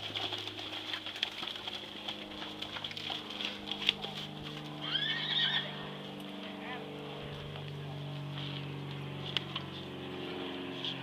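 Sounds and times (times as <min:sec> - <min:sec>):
light knocks of hooves: 0:00.0 - 0:11.0
low hum: 0:00.0 - 0:11.0.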